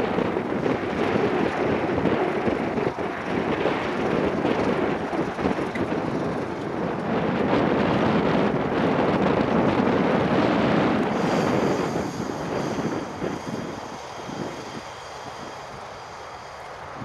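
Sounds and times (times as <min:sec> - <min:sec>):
diesel locomotive engine running: 0:00.0 - 0:17.0
wind buffeting microphone: 0:00.0 - 0:17.0.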